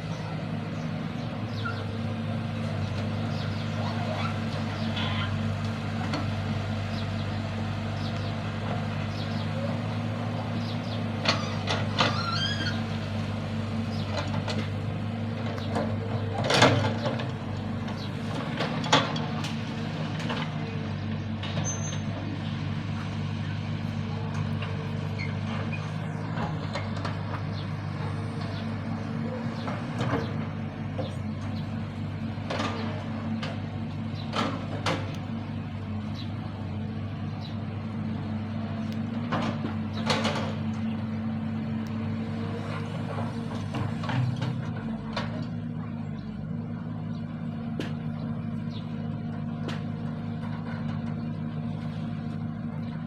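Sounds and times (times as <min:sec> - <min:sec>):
excavator engine running: 0:00.0 - 0:53.0.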